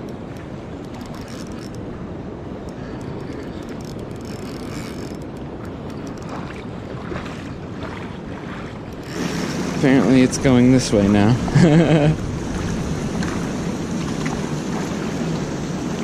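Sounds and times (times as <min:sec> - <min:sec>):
river water rushing: 0:00.0 - 0:16.0
wind on microphone: 0:00.0 - 0:16.0.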